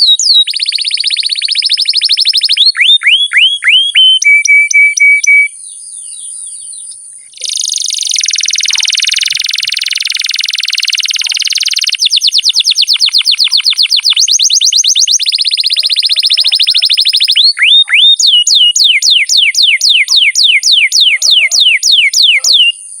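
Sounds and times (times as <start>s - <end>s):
canary singing: 0.0s - 23.0s.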